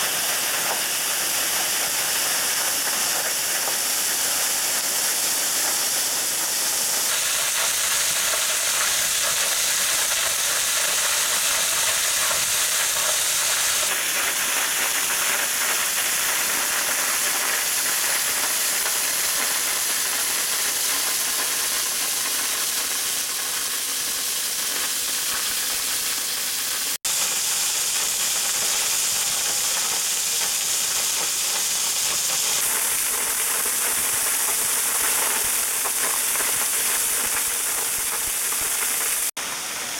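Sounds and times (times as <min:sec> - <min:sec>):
waterfall splashing on rocks: 0:00.0 - 0:39.9.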